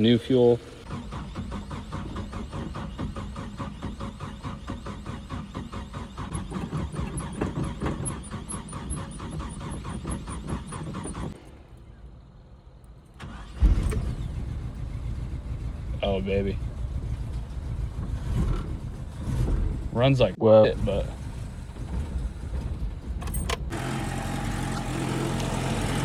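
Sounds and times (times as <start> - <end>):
engine cranking on starter: 0.0 - 11.4, 13.1 - 26.0
engine running: 0.0 - 12.0, 12.8 - 26.0.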